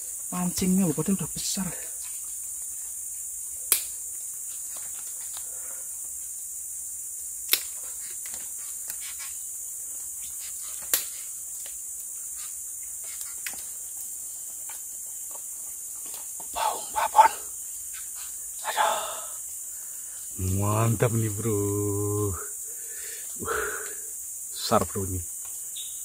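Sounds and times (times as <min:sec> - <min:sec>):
forest insects chorus: 0:00.0 - 0:26.0.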